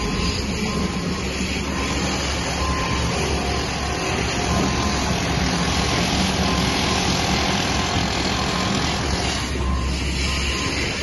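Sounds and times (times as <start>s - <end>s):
construction machinery engine drone: 0.0s - 11.0s
street noise: 0.0s - 11.0s.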